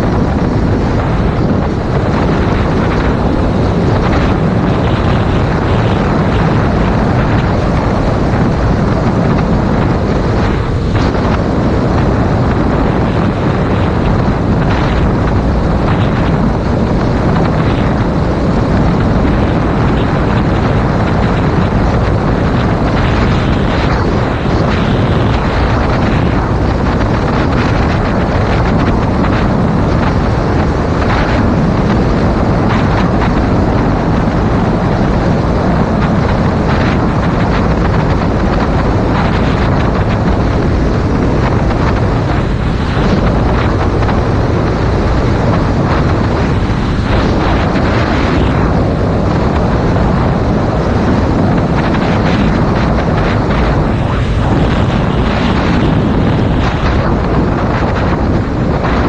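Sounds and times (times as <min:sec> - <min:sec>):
wind roar on microphone: 0:00.0 - 0:59.0.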